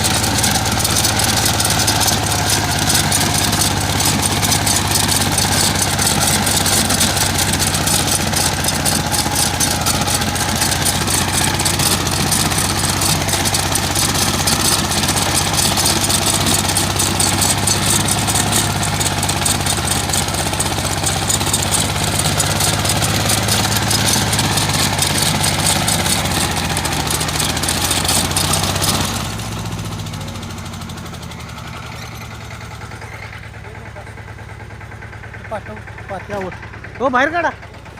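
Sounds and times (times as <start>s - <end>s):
mini tractor engine clattering: 0.0s - 37.9s.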